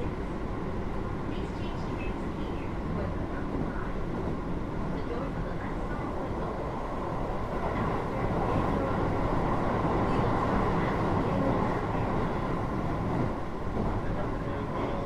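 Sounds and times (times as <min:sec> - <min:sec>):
train wheels rumbling on rails: 0:01.1 - 0:15.0.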